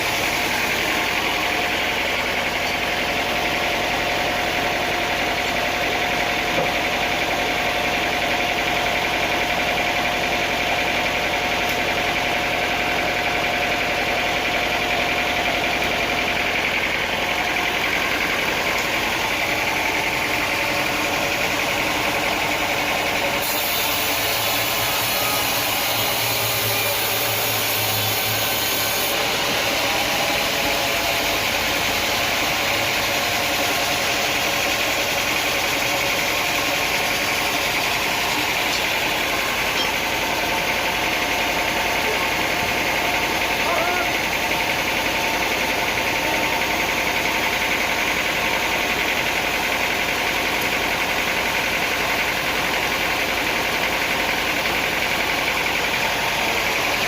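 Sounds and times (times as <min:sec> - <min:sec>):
constant machine whine: 0:00.0 - 0:57.0
sawmill machinery humming: 0:00.0 - 0:57.0.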